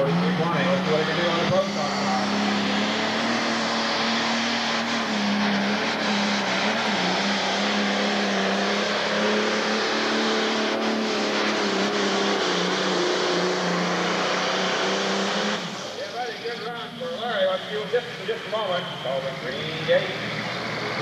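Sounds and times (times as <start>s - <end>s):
diesel tractor engine under load: 0.0s - 21.0s.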